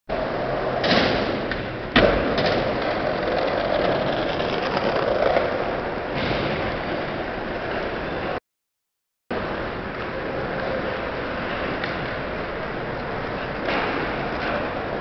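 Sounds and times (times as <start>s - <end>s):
traffic noise: 0.1s - 8.4s, 9.3s - 15.0s.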